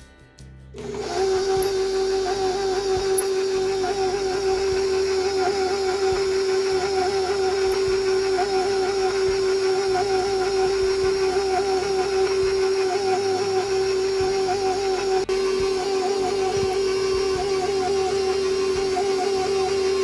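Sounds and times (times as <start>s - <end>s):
stand mixer motor whining: 0.8s - 20.0s.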